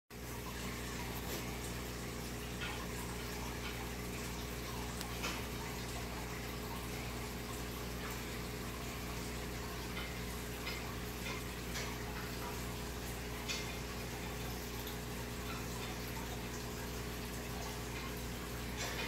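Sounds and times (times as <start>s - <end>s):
aquarium airstones bubbling: 0.1s - 19.0s.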